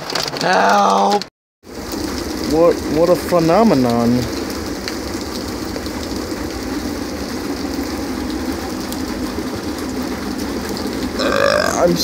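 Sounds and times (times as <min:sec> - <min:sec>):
hail striking: 0:00.0 - 0:12.0
heavy rain: 0:00.0 - 0:12.0.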